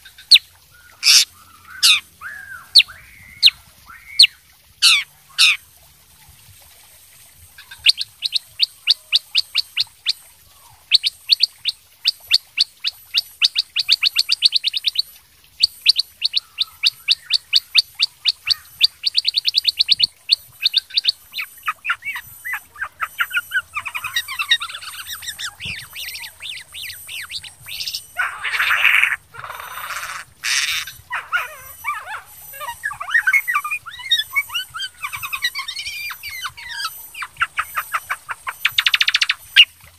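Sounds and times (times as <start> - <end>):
bulbul singing: 7.6 - 39.9.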